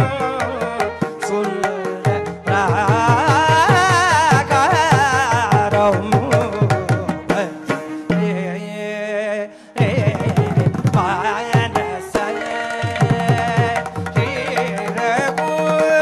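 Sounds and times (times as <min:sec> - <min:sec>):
man singing ornamented phrases: 0:00.0 - 0:16.0.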